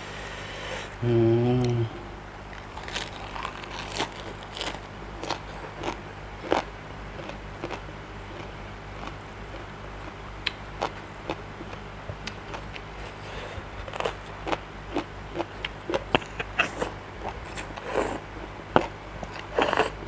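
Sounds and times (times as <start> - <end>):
person chewing crunchy salad: 2.5 - 20.0.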